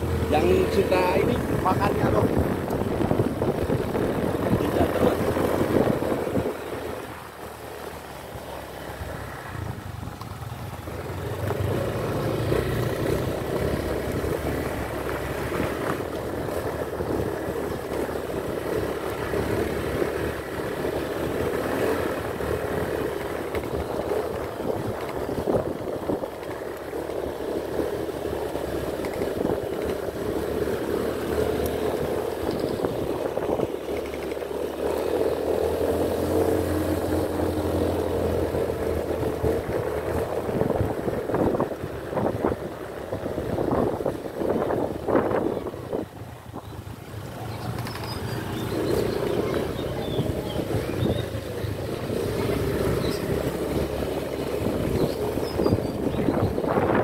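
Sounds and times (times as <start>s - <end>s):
motorcycle engine running: 0.0s - 57.0s
road and wind rumble: 0.0s - 57.0s.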